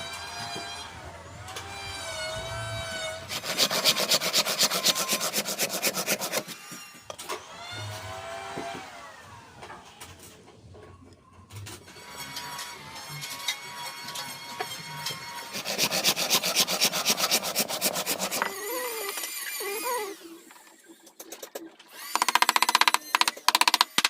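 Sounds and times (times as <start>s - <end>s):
power drill motor whining: 0.0s - 10.0s, 11.9s - 20.6s, 21.9s - 24.0s.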